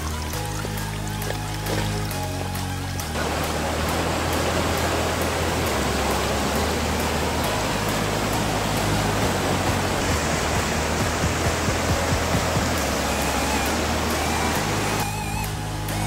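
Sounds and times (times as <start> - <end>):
river rapids rushing over rocks: 3.0 - 16.0.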